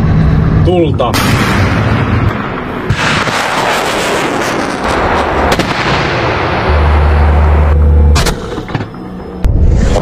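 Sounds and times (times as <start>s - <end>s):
heavy low rumble: 0.0s - 10.0s.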